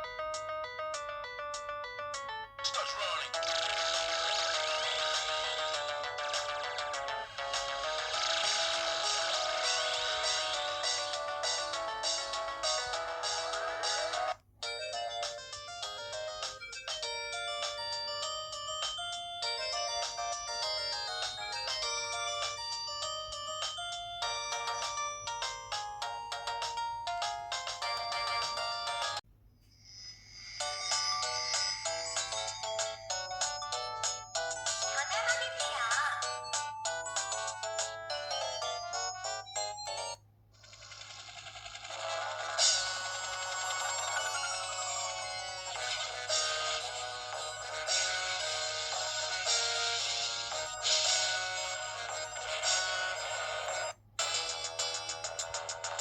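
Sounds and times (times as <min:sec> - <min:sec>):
mobile phone ringtone melody: 0:00.0 - 0:29.2, 0:30.5 - 0:41.2, 0:42.4 - 0:56.0.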